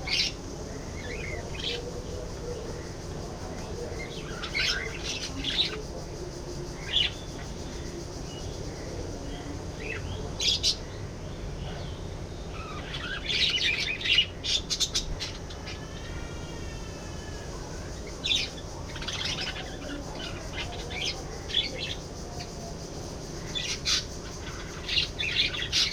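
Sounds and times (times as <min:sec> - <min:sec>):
low background noise: 0:00.0 - 0:25.9.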